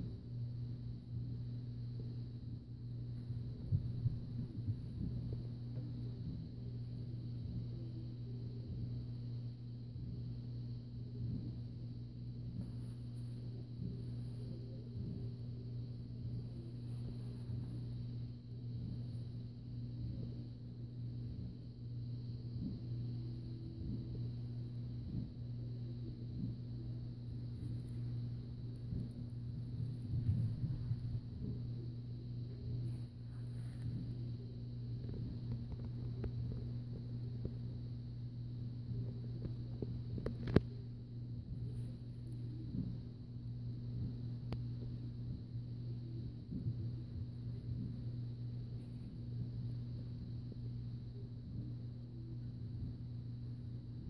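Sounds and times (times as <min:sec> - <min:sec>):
low two-tone hum: 0:00.0 - 0:54.0.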